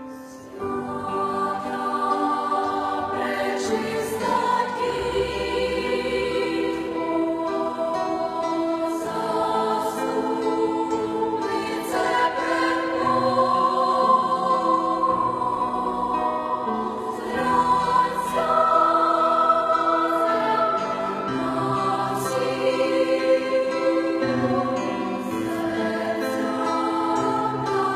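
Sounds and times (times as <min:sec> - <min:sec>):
choir singing sustained chords: 0:00.0 - 0:27.9.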